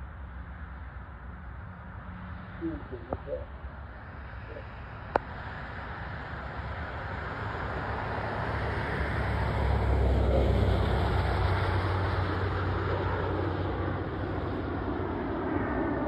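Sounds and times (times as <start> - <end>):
turboprop aircraft engine rumble: 0.0 - 16.0.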